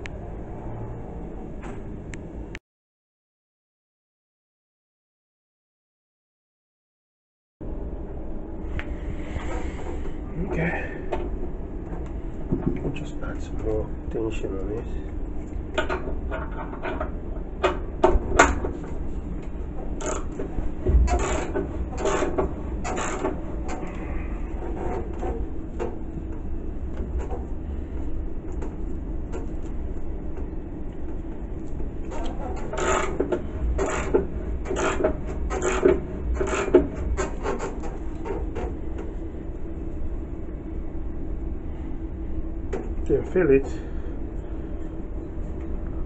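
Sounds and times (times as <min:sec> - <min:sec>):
steady low hum: 0:00.0 - 0:02.6, 0:07.6 - 0:46.0.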